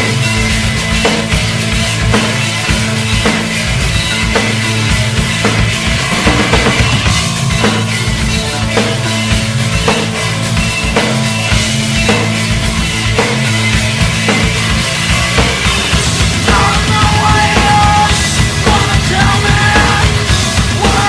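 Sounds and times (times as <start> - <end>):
slow heavy drum beat: 0.0 - 21.0.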